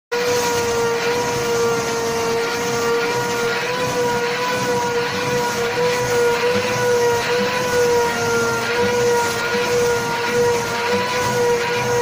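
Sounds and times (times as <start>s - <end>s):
vacuum cleaner motor whine: 0.1s - 12.0s.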